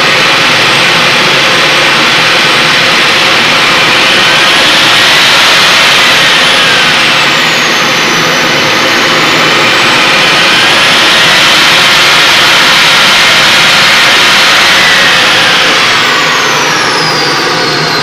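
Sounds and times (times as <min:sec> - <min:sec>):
jet turbine whine: 0:00.0 - 0:18.0.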